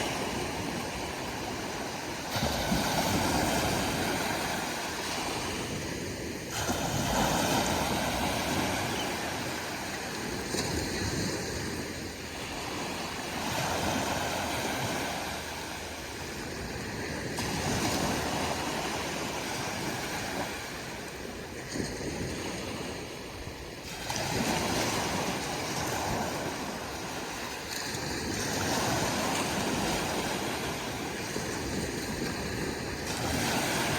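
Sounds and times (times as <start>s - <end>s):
ocean waves breaking: 0.0s - 33.9s.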